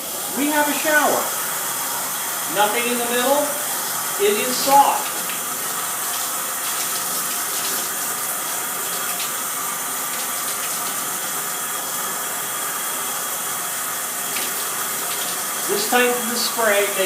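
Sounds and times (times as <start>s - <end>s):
shower water spraying: 0.0s - 17.0s.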